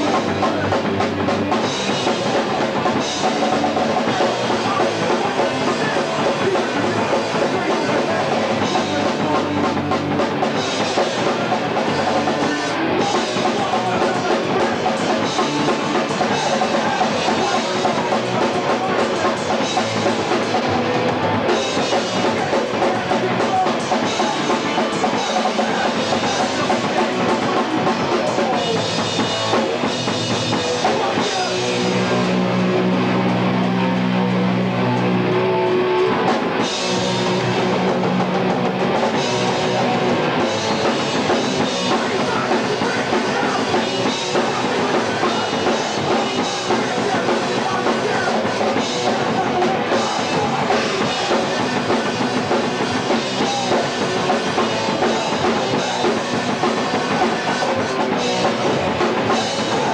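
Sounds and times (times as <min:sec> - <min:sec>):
punk band playing live: 0:00.0 - 0:59.9.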